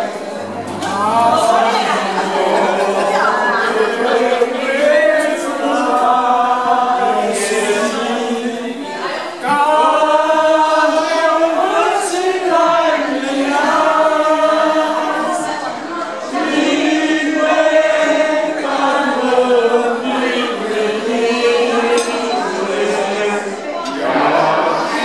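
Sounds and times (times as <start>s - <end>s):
group of people singing: 0.0s - 25.0s.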